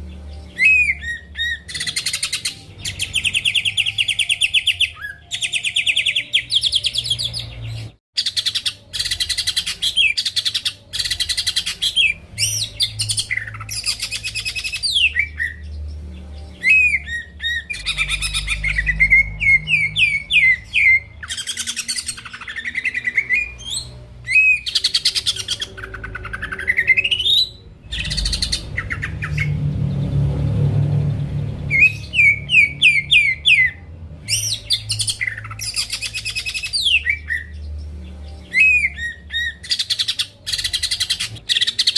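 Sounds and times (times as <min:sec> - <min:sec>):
bird singing trills and whistles: 0:00.0 - 0:29.6, 0:31.6 - 0:41.9.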